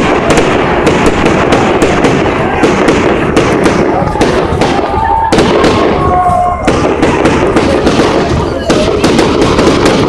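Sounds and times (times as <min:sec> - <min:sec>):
fireworks bangs and crackles: 0:00.0 - 0:10.0
fireworks whistling: 0:00.0 - 0:10.0.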